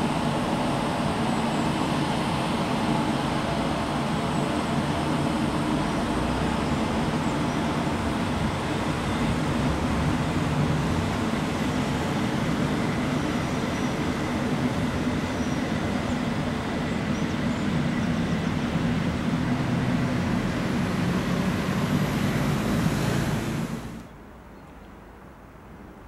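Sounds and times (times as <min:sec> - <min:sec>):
electric locomotive drone: 0:00.0 - 0:24.2.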